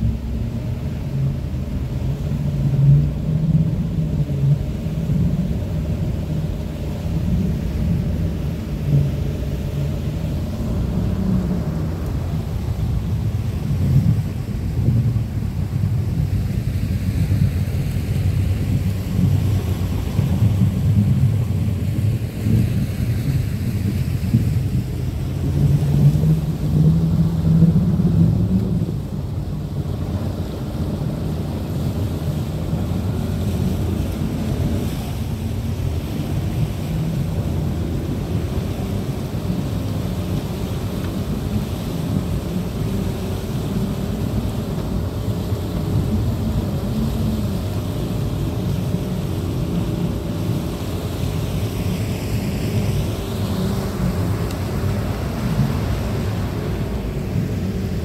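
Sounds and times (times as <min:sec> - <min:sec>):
outboard motor running: 0:00.0 - 0:58.0
water rushing past hull: 0:00.0 - 0:58.0
wind buffeting microphone: 0:00.0 - 0:58.0.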